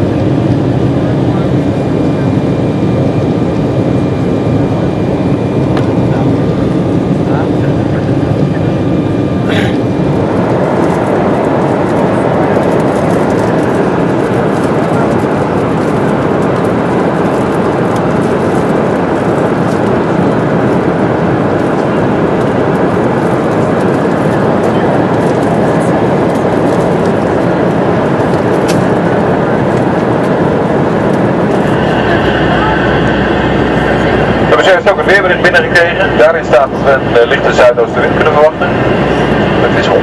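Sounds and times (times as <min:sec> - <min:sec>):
airliner cabin engine roar: 0:00.0 - 0:40.0.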